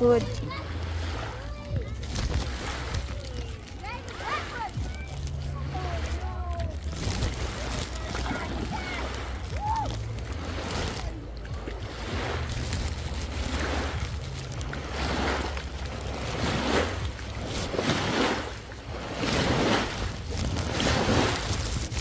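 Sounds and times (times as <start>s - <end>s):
low steady rumble: 0.0s - 22.0s
small waves lapping on shore: 0.0s - 22.0s.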